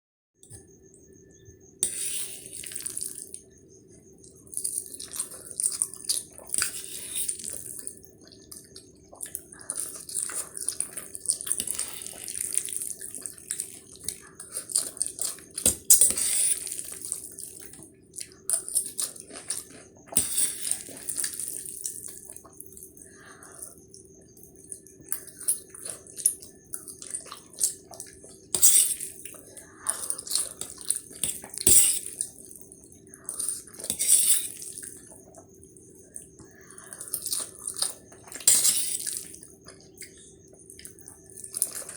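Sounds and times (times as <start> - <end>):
faint steady hum: 0.4 - 41.9
slurping and chewing noodles: 1.8 - 41.9.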